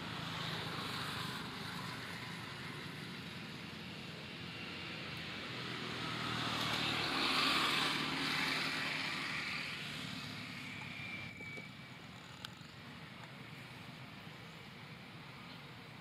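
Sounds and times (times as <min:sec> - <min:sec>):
passing vehicle engine: 0:00.0 - 0:14.2.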